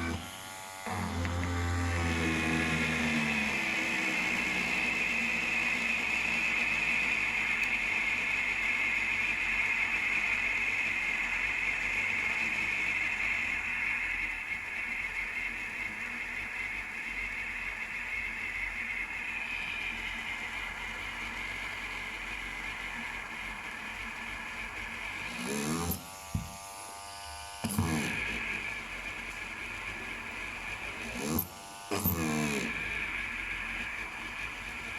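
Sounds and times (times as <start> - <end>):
machine whirring hiss: 0.0 - 34.9.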